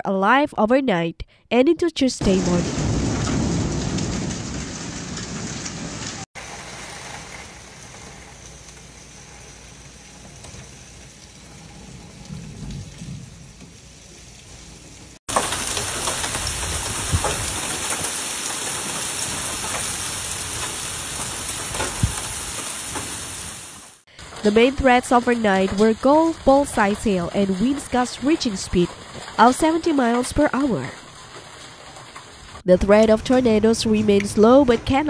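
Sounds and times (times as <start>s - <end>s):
heavy wind-driven rain: 2.2s - 32.6s
hail hitting: 2.2s - 33.4s.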